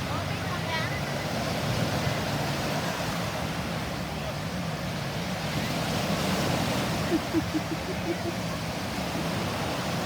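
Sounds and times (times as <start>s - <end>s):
boat engine drone: 0.0s - 10.0s
wind and water rushing: 0.0s - 10.0s.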